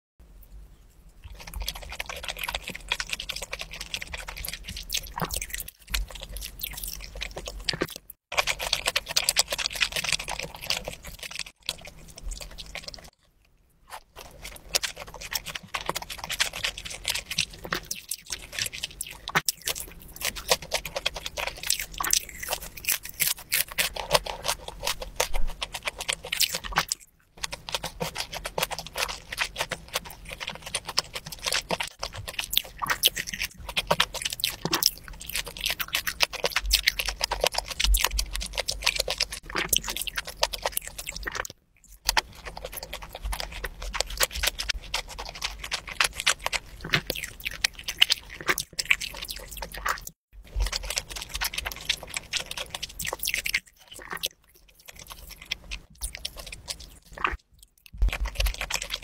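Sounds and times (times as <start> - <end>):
wet chewing mouth sounds: 1.2 - 59.0
crunchy bites: 1.3 - 13.3, 13.9 - 59.0.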